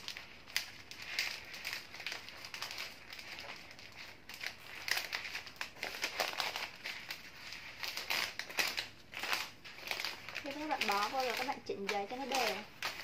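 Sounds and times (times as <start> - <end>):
wrapping paper rustling and crinkling: 0.0 - 13.0.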